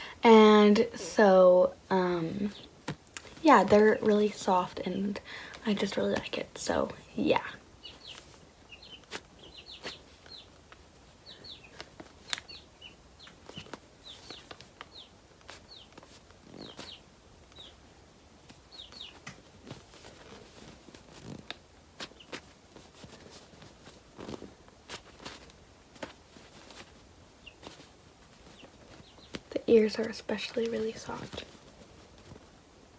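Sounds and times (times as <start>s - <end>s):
faint clicks and rustles: 2.1s - 32.9s
baby chicks peeping: 5.5s - 32.4s.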